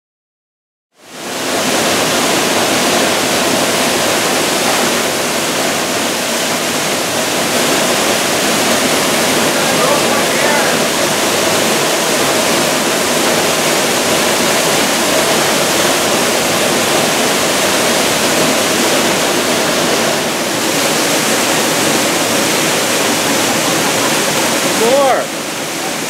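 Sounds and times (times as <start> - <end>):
waterfall rushing onto rocks: 1.0 - 26.0.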